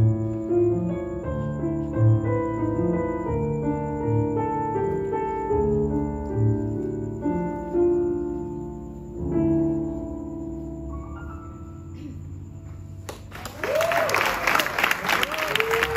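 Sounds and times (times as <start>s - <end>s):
keyboard playing slow piano chords: 0.0s - 14.0s.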